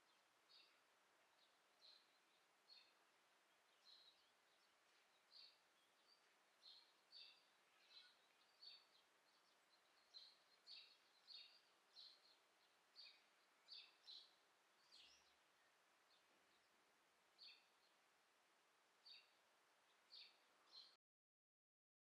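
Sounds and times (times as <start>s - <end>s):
faint bird chirps: 0.0s - 18.1s, 19.0s - 21.0s.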